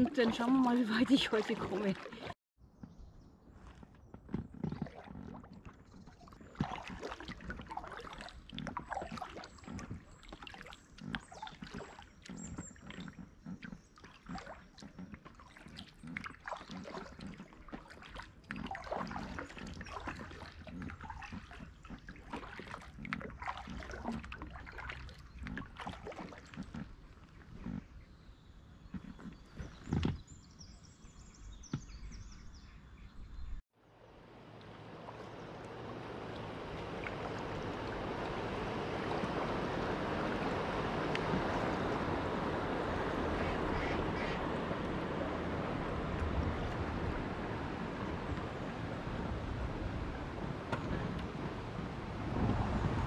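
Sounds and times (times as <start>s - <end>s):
paddle splashing in water: 0.0s - 2.4s, 3.5s - 28.2s, 33.9s - 53.0s.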